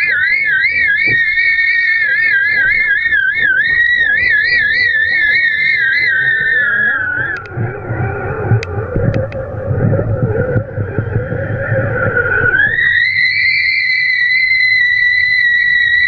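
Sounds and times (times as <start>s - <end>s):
wind whistling over kite line: 0.0s - 16.0s.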